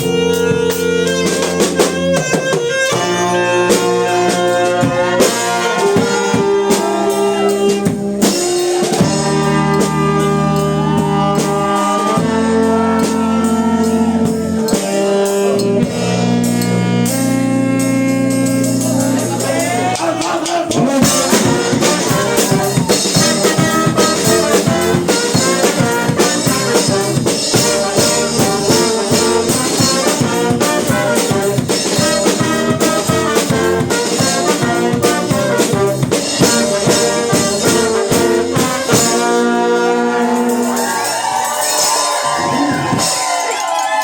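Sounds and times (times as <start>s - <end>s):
brass band playing: 0.0s - 44.0s
drums: 0.0s - 44.0s.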